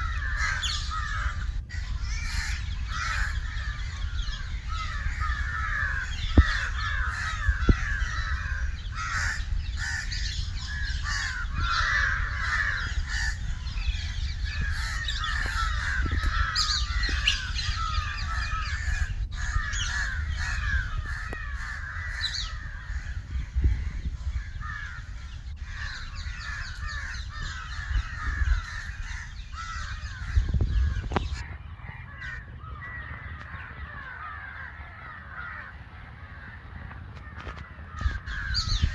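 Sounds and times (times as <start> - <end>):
crows cawing: 0.0 - 38.9
low microphone rumble: 0.0 - 38.9.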